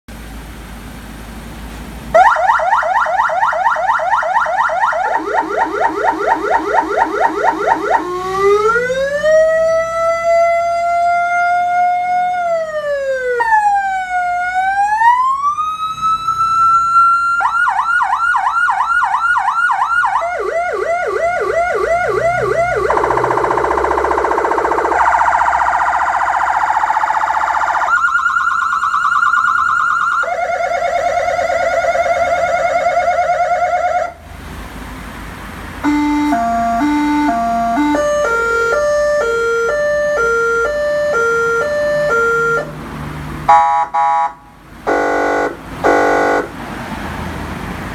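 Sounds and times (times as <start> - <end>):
emergency vehicle siren: 2.1 - 34.2, 35.8 - 46.6.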